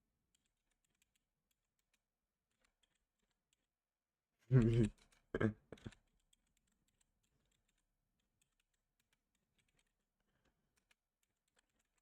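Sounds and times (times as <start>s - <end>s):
faint keyboard typing: 0.0s - 12.0s.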